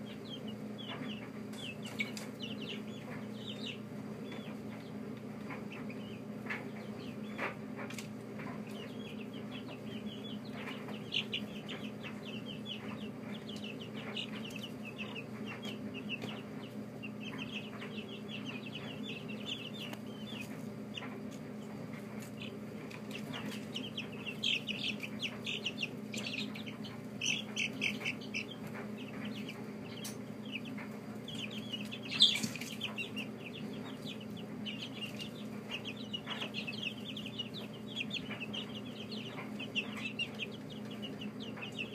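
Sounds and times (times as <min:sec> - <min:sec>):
baby chicks peeping: 0:00.0 - 0:41.9
low steady hum: 0:00.0 - 0:41.9.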